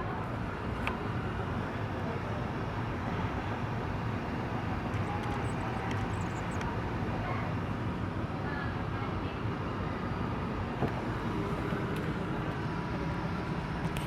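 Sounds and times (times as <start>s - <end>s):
blower fan hum: 0.0s - 14.0s.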